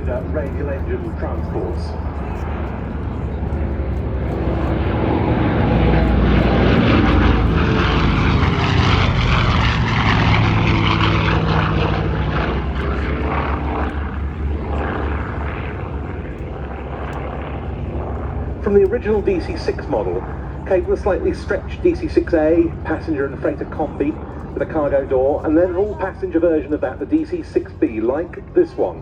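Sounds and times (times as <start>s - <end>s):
propeller aircraft droning flyby: 0.0s - 29.0s.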